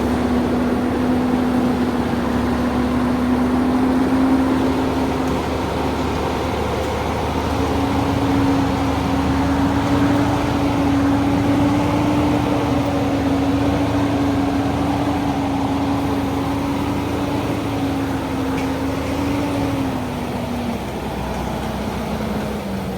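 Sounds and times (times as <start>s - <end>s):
truck engine running: 0.0s - 22.9s.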